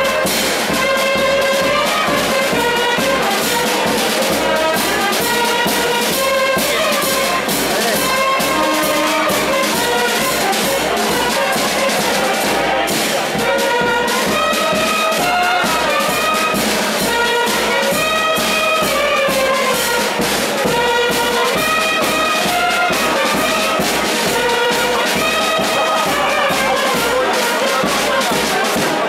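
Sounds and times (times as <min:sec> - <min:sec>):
bass drum beat: 0:00.0 - 0:29.0
brass band playing: 0:00.0 - 0:29.0.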